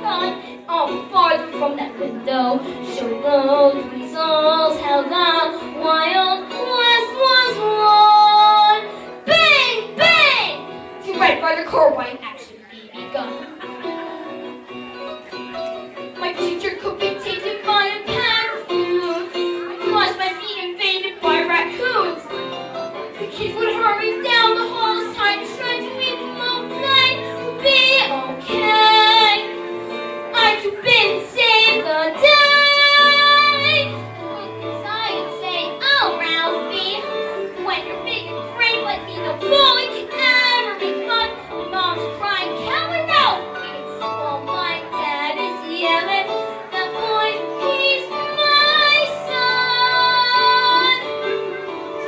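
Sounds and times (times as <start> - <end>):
child singing with vibrato: 0.0 - 11.8, 16.2 - 22.4, 23.2 - 29.6, 30.3 - 52.0
instrumental accompaniment: 0.0 - 52.0
show tune music: 0.0 - 52.0.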